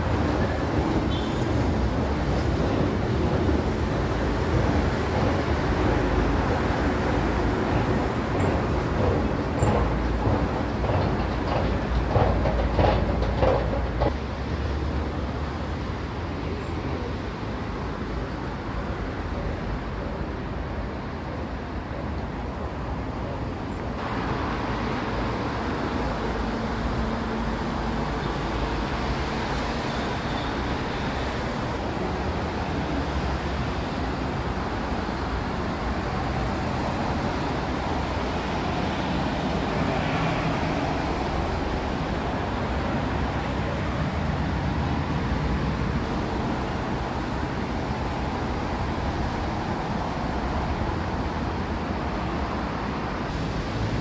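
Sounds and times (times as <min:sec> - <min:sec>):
road traffic rumble and hiss: 0:00.0 - 0:54.0.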